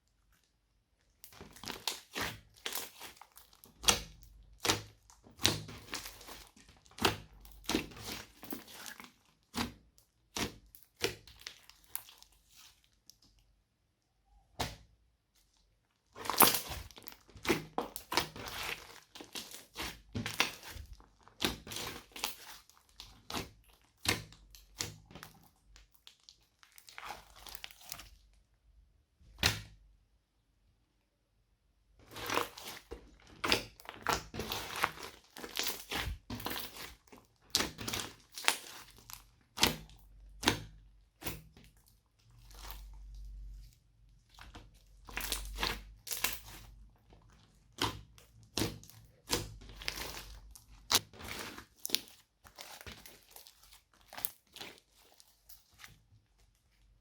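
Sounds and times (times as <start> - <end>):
slime squished by hand: 0.2 - 13.2, 14.2 - 28.4, 32.0 - 57.0.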